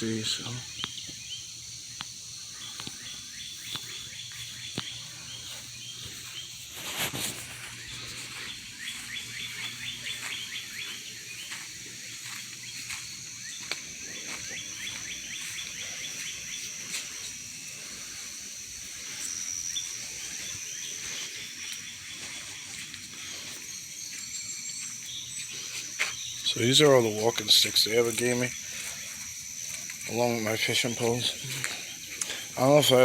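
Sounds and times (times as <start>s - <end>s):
high-pitched insect drone: 0.0s - 33.0s
songbird chirping: 0.0s - 33.0s.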